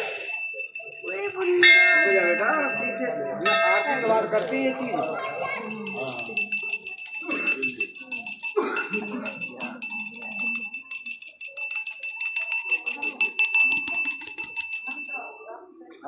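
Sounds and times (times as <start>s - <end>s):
bell ringing rapidly: 0.0s - 15.6s
people murmuring: 0.0s - 16.0s.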